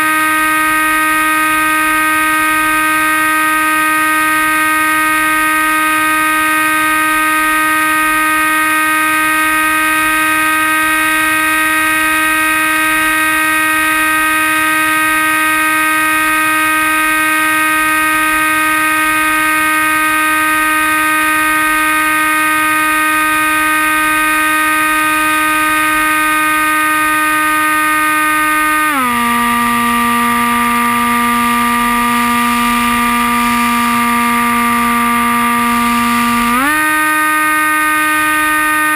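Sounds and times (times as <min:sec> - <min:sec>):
model plane motor humming: 0:00.0 - 0:38.9.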